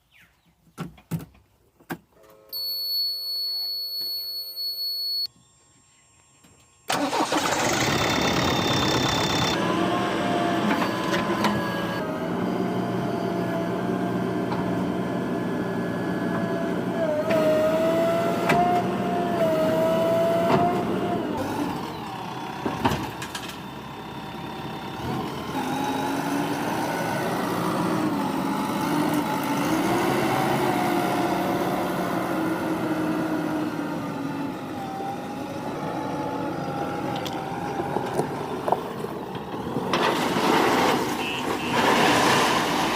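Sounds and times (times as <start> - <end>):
diesel engine revving: 6.9 - 42.9.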